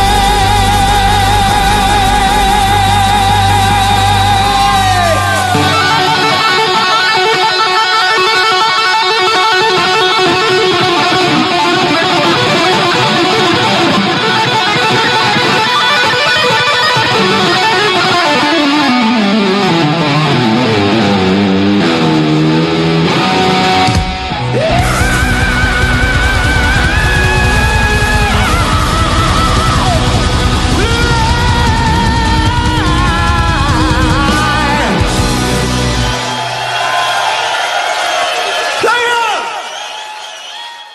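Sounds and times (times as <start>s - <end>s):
electric guitar sustained notes: 0.0s - 36.7s
hard rock band playing: 0.0s - 38.9s.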